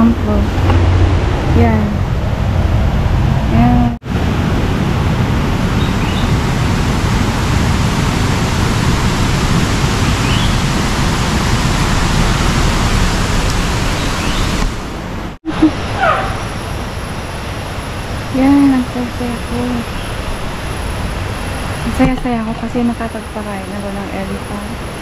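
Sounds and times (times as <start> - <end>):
loud rushing noise with low rumble: 0.0 - 25.0.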